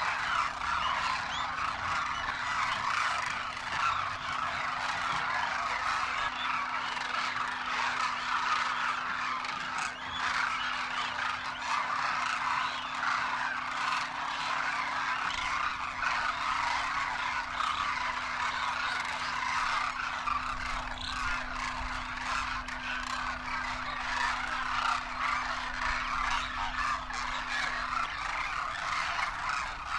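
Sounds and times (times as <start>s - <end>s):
cranes calling: 0.0s - 29.9s
faint low hum: 0.0s - 29.9s.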